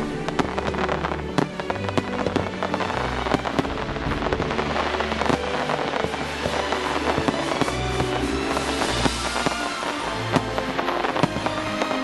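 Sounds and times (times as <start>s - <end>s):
fireworks bursting and crackling: 0.0s - 12.0s.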